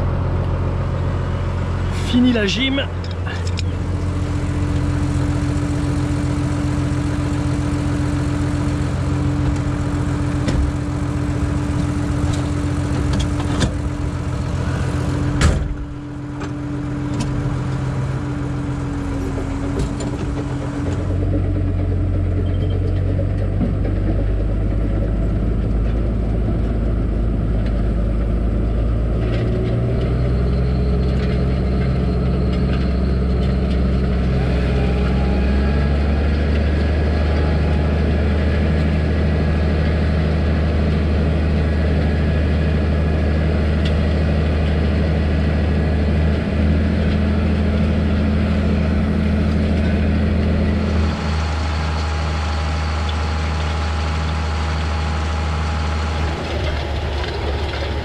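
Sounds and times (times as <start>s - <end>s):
diesel tractor engine idling: 0.0s - 58.0s.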